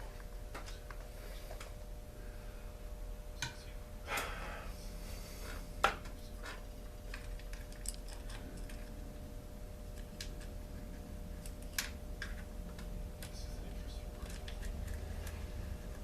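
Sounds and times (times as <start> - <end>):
steady faint hum: 0.0 - 16.0.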